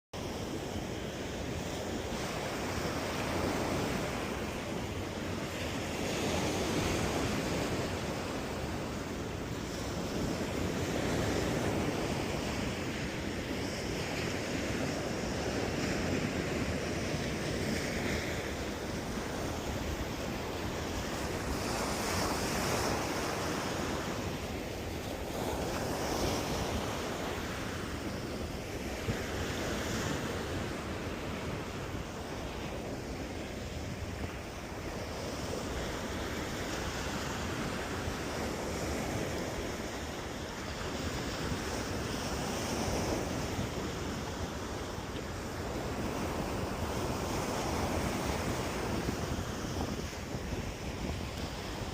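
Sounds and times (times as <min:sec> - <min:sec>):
surf washing onto beach: 0:00.2 - 0:51.9
wind buffeting microphone: 0:00.2 - 0:51.9.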